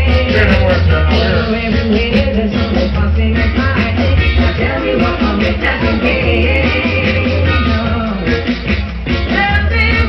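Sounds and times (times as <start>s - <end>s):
person singing: 0.0s - 8.7s
heavy bass line: 0.0s - 10.0s
reggae through a sound system: 0.0s - 10.0s.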